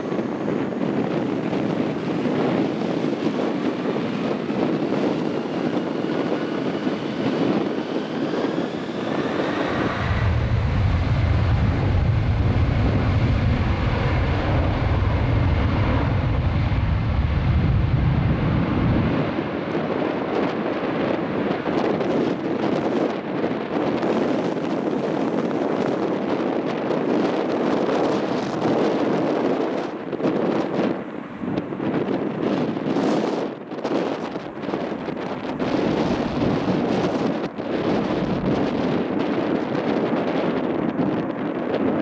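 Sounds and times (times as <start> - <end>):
deep jet engine rumble: 0.0 - 42.0
jet engines whining: 0.0 - 42.0.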